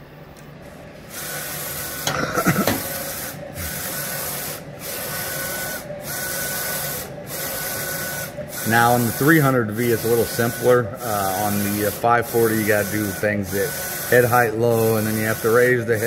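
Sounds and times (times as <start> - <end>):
printer carriage passes with whine: 0.6 - 16.0.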